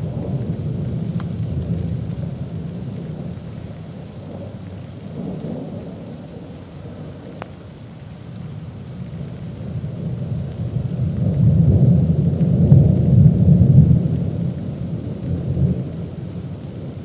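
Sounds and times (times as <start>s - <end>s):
thunder rumbling: 0.0s - 7.8s, 8.9s - 17.0s.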